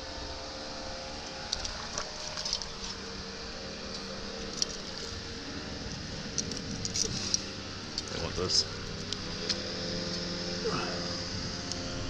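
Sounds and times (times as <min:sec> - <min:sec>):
background hum: 0:00.0 - 0:12.0
faint steady tones: 0:00.0 - 0:12.0.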